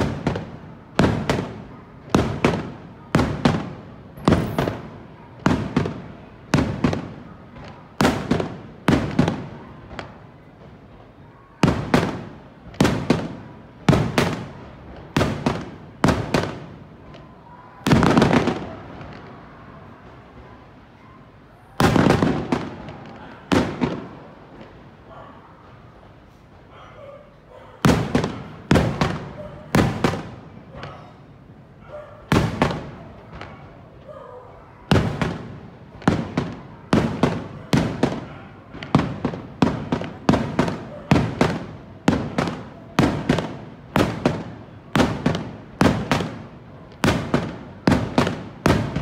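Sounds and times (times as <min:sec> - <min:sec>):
fireworks bursting with echo: 0:00.0 - 0:49.0.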